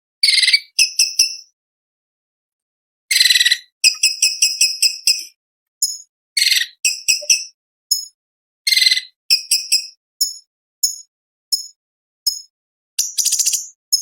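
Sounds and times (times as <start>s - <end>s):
bird singing: 0.2s - 1.5s, 3.1s - 14.0s.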